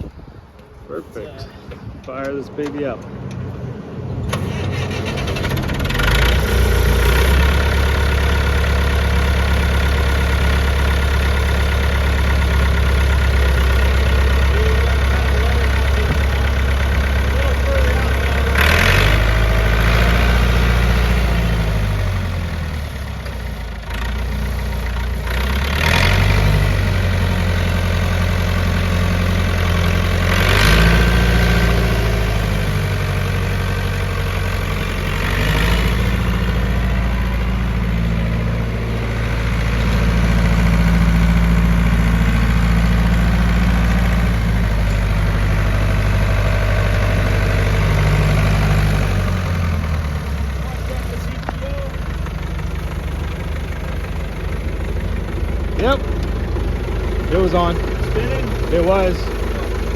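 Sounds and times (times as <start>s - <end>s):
tractor diesel engine revving: 4.2s - 59.9s.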